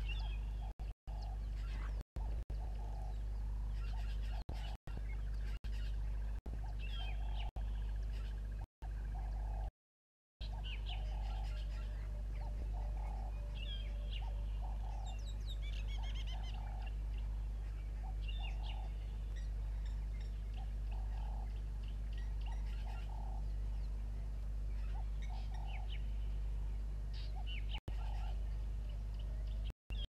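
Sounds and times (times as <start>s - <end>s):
bird trill: 0.0s - 9.7s, 10.4s - 30.0s
small birds chirping: 0.0s - 9.7s, 10.4s - 30.0s
steady low hum: 0.0s - 9.7s, 10.4s - 30.0s.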